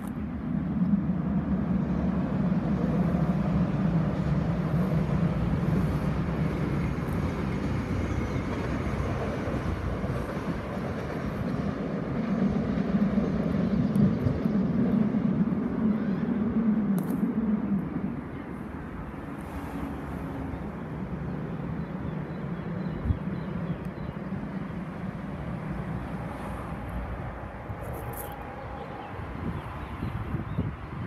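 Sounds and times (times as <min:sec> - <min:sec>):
train rumbling over viaduct: 0:00.0 - 0:31.0.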